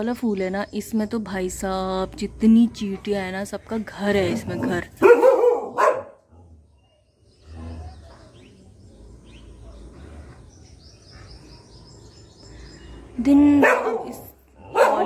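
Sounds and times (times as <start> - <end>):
bird chirping: 2.8 - 15.0.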